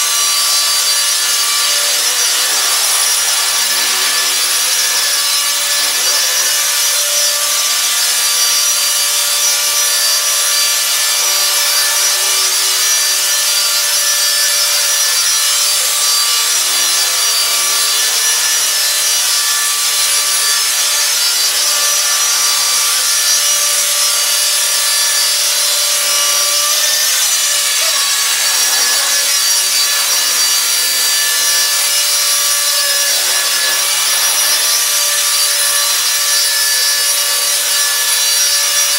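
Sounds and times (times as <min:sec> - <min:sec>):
rc helicopter rotor whine: 0:00.0 - 0:38.9.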